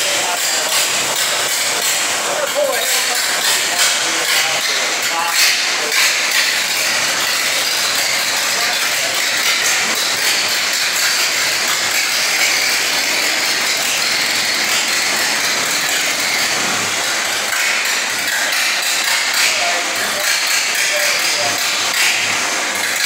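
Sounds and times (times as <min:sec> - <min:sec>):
truck engine running with clatter: 0:00.0 - 0:23.0.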